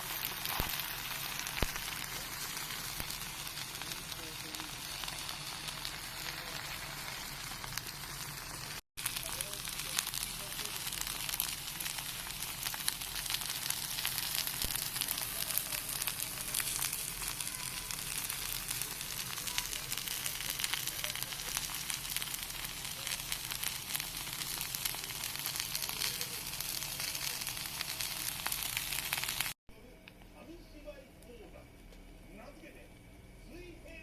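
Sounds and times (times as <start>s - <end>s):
food sizzling in a pan: 0.0s - 29.6s.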